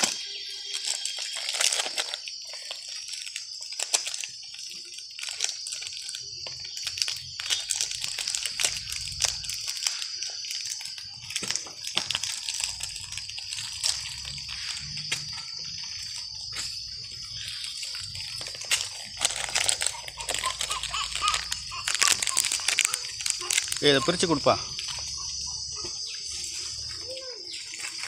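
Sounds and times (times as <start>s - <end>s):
plastic wrappers crinkling: 0.0s - 28.0s.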